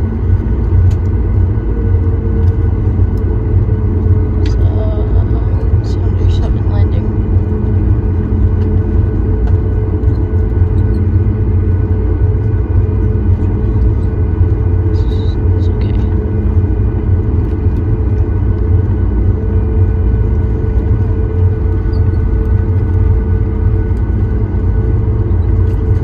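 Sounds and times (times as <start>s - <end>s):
faint whining tones: 0.0s - 26.0s
jet engines low rumble: 0.0s - 26.0s.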